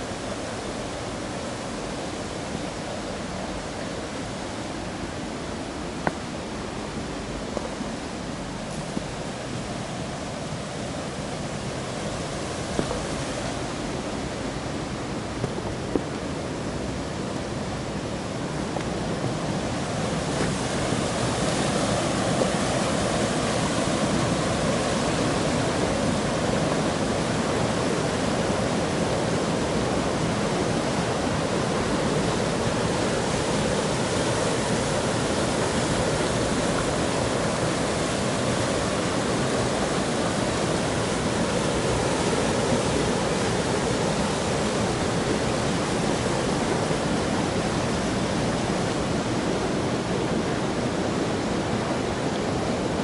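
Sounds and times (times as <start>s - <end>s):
waterfall and river rushing: 0.0s - 53.0s.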